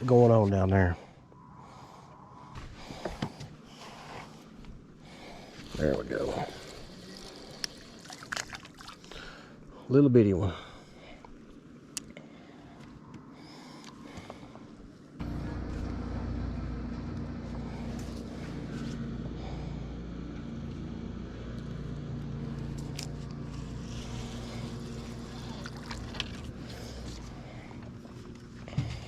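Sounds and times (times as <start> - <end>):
boat motor humming: 1.1 - 9.7, 10.5 - 29.0.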